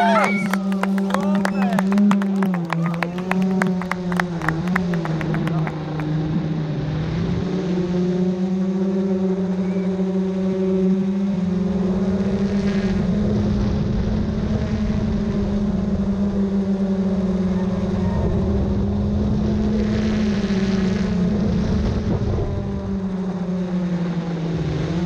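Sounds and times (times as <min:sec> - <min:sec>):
drone propellers humming: 0:00.0 - 0:25.0.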